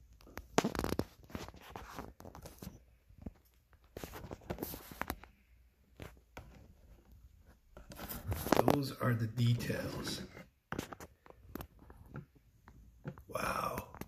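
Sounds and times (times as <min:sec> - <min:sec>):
handling rustles and clicks: 0:00.0 - 0:13.3.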